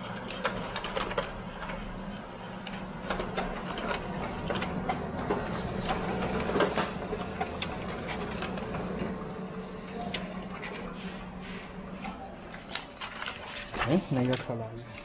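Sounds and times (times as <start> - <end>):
copier motor hum: 0.0 - 15.0
paper feed clicks and clacks: 0.0 - 15.0.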